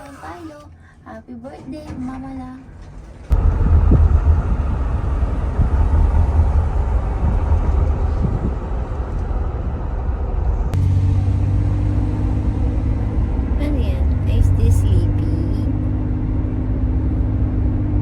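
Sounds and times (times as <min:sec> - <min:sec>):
low rumbling hum: 0:00.0 - 0:18.0.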